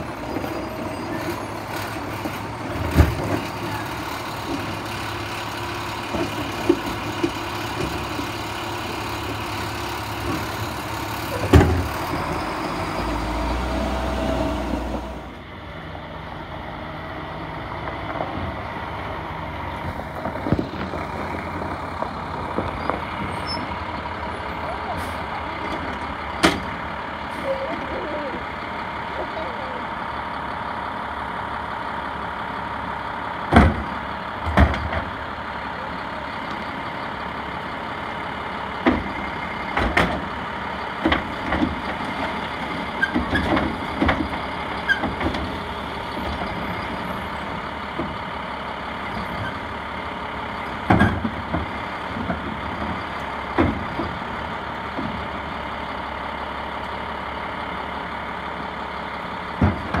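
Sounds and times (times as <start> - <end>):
truck engine running: 0.0 - 60.0.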